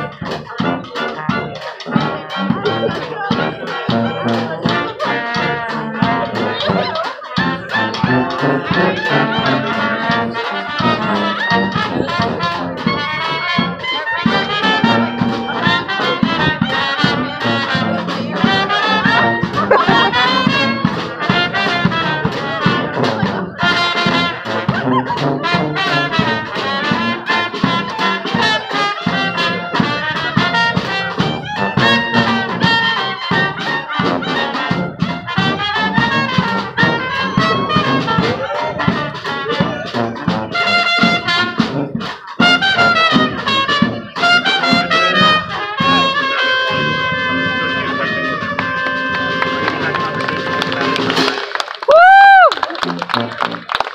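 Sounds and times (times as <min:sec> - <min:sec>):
bass drum and snare drum: 0:00.0 - 0:53.9
brass band playing: 0:00.0 - 0:53.9.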